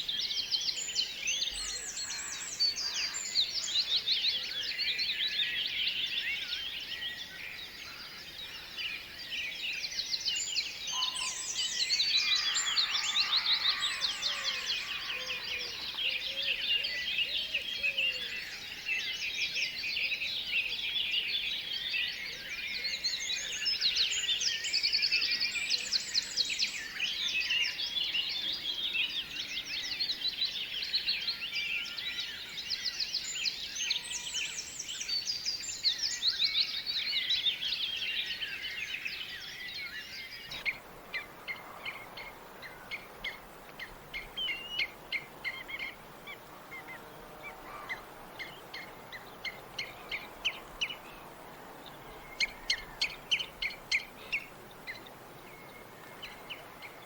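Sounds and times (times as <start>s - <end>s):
tropical birds chirping: 0.0s - 57.0s.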